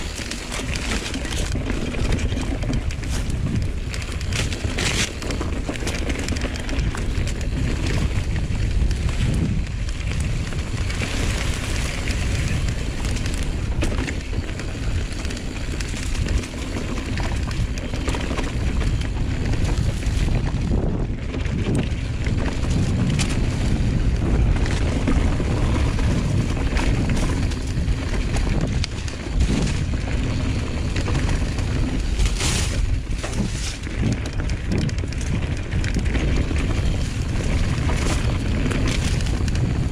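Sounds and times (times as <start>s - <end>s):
bike tyres rumbling on dirt: 0.0s - 39.9s
wind buffeting microphone: 0.0s - 39.9s.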